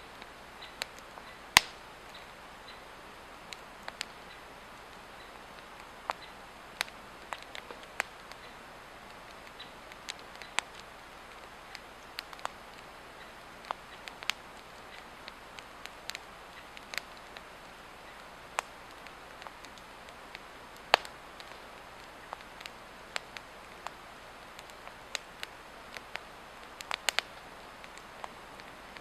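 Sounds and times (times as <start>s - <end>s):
log fire crackling and popping: 0.0s - 29.0s.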